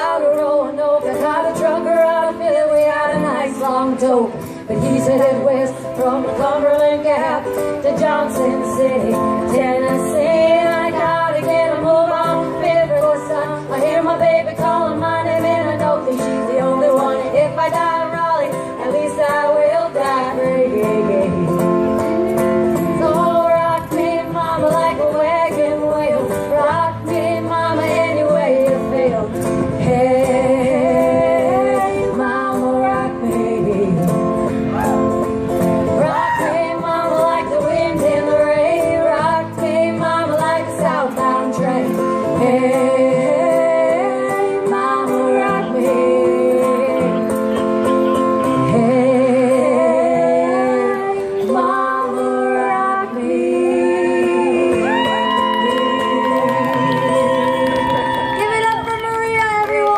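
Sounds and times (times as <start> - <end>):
woman singing: 0.0 - 34.6, 35.8 - 47.6, 48.4 - 59.9
acoustic guitar: 0.0 - 59.9.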